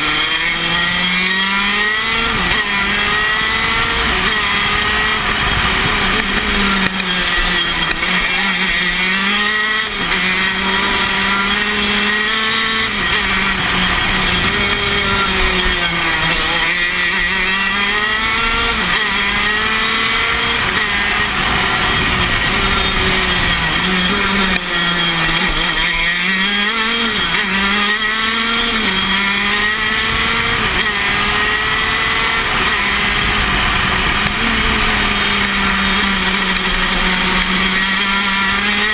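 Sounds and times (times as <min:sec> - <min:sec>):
kart engine racing: 0:00.0 - 0:38.9.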